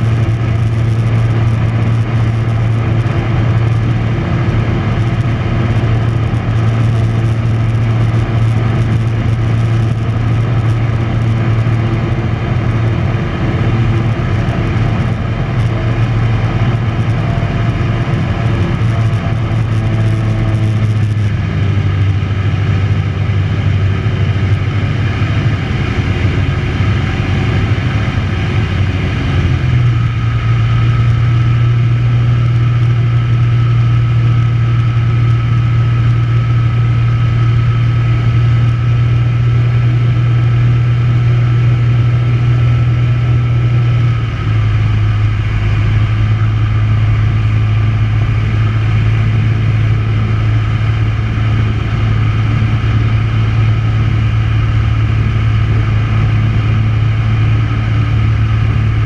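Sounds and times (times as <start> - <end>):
aircraft engine and propeller: 0.0 - 59.0.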